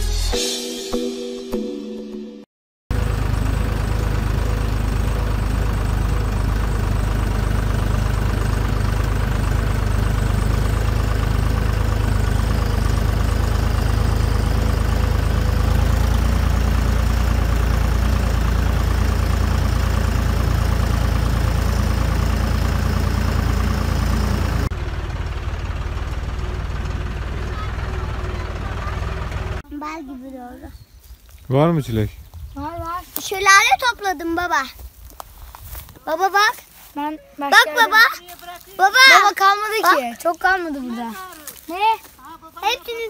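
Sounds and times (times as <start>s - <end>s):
tractor diesel engine running: 2.9s - 43.0s.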